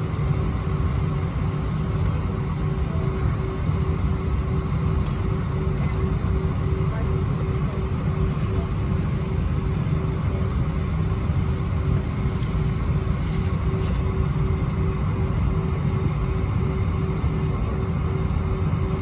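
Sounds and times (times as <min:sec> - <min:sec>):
aircraft cabin low rumble: 0:00.0 - 0:19.0
constant droning hum: 0:00.0 - 0:19.0.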